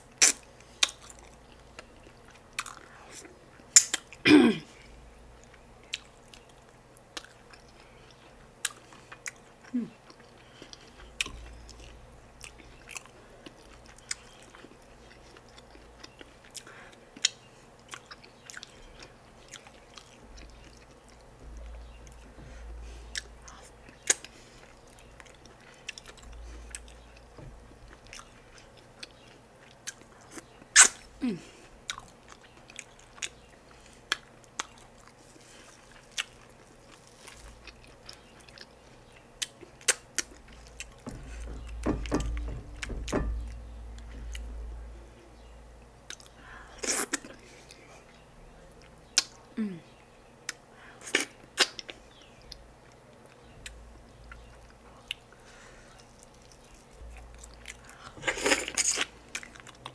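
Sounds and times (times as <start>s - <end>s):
person chewing food: 0.0s - 4.2s, 4.8s - 49.4s, 50.4s - 59.9s.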